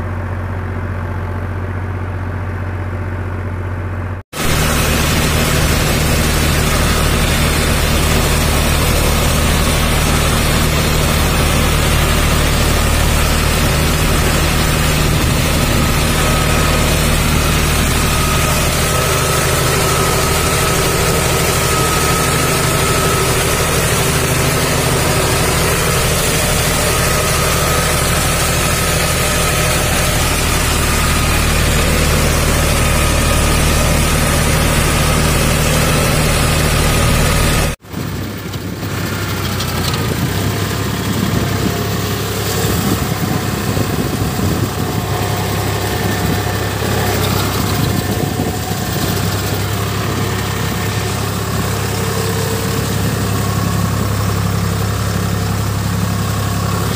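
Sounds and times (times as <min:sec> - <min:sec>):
quieter engine: 0:00.0 - 0:56.9
tractor diesel engine running: 0:00.0 - 0:56.9.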